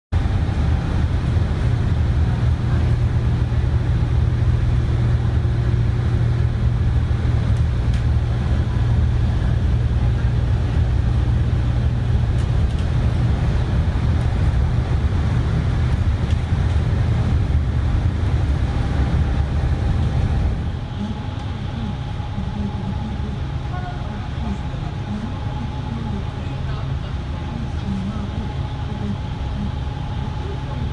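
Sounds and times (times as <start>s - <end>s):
bus engine and road rumble: 0.1s - 30.9s.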